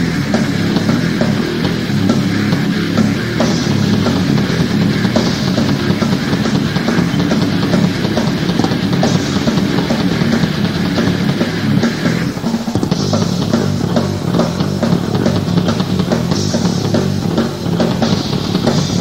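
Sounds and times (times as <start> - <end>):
metal band playing live: 0.0 - 19.0.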